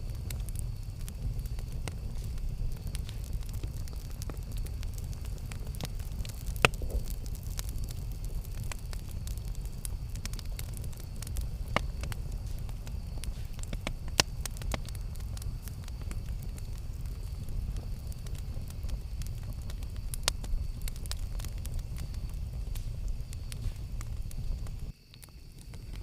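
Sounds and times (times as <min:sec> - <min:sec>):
burning wood crackling and popping: 0:00.0 - 0:26.0
campfire rumbling: 0:00.0 - 0:26.0.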